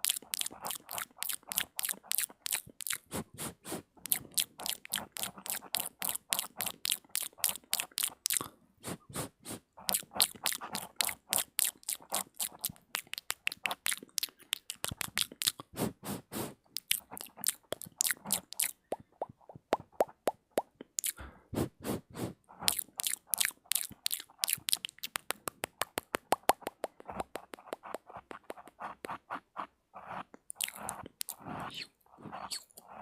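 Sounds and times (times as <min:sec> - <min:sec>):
wet mouth clicks and smacks: 0:00.0 - 0:03.2, 0:04.0 - 0:08.5, 0:09.8 - 0:15.7, 0:16.7 - 0:21.2, 0:22.6 - 0:29.1, 0:30.4 - 0:31.8, 0:32.5 - 0:32.9.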